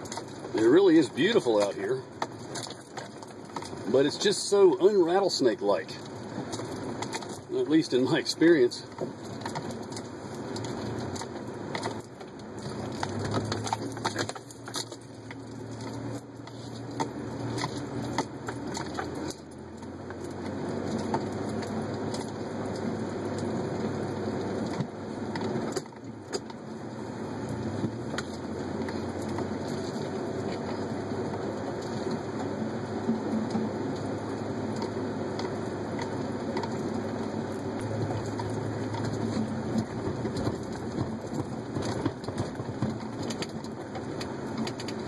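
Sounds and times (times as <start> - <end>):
low engine hum: 0.0 - 45.0
tyres crunching on gravel: 0.0 - 45.0.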